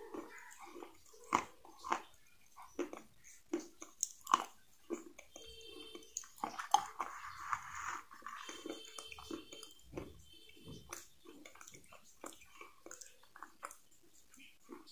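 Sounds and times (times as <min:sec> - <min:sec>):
person chewing crunchy food: 0:00.0 - 0:14.9.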